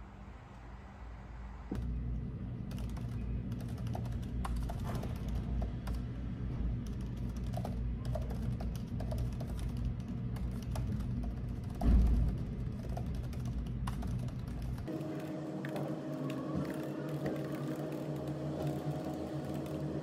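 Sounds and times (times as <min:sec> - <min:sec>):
typing on laptop keyboard: 0:02.7 - 0:06.0, 0:06.8 - 0:20.0.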